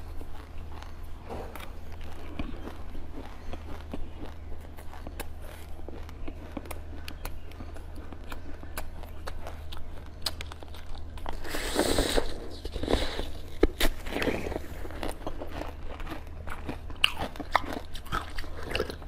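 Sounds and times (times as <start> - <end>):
eating sounds: 0.0 - 19.0
steady low hum: 0.0 - 19.0.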